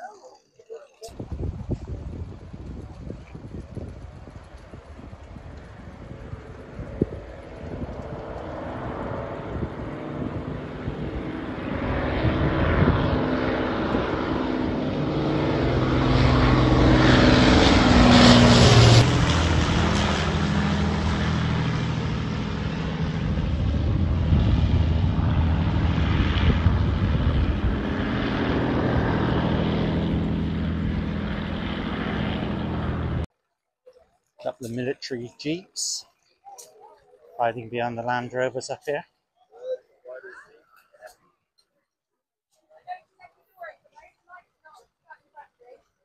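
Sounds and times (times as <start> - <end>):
propeller plane engines droning: 0.0 - 33.3, 34.4 - 41.2.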